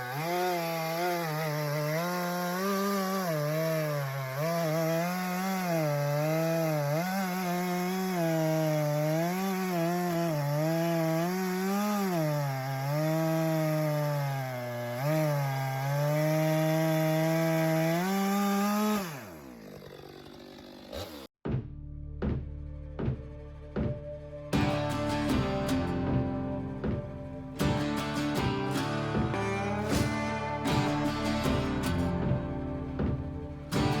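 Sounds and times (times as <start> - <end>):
chainsaw cutting through log: 0.0 - 21.3, 24.6 - 34.0.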